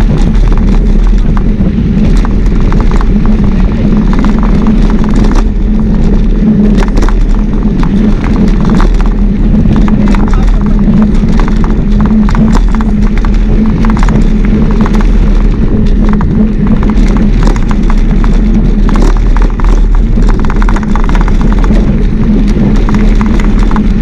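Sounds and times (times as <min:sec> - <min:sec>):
bike rolling noise: 0:00.0 - 0:24.0
clicks and rattles: 0:00.0 - 0:24.0
wind rushing: 0:00.0 - 0:24.0.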